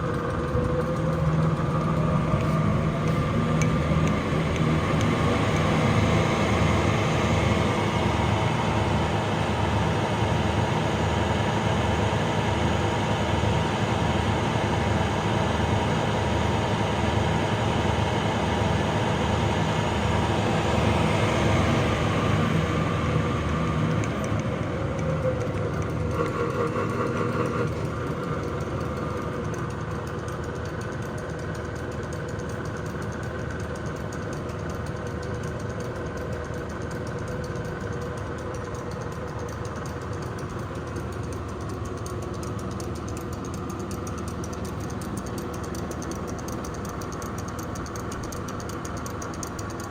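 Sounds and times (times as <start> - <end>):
lathe running: 0.0 - 49.9.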